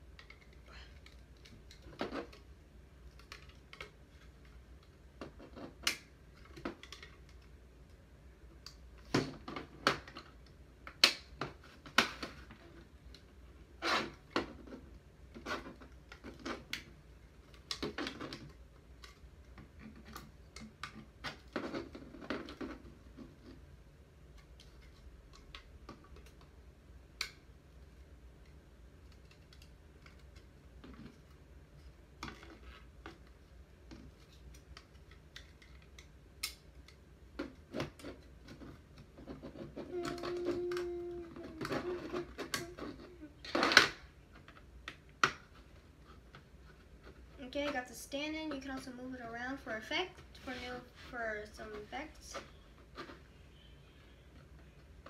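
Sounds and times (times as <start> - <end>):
plastic parts clicking and scraping: 0.0 - 23.7, 24.3 - 26.6, 27.2 - 47.9, 50.2 - 53.4.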